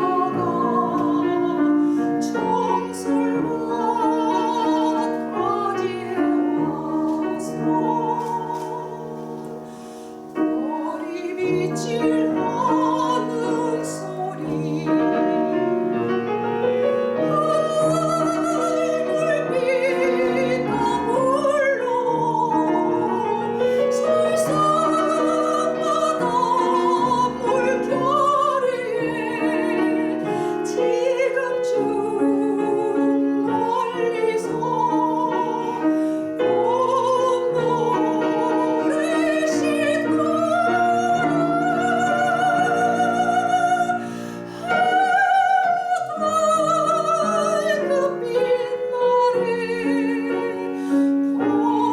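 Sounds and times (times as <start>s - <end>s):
piano accompaniment: 0.0s - 51.9s
soprano singing operatically: 0.0s - 51.9s.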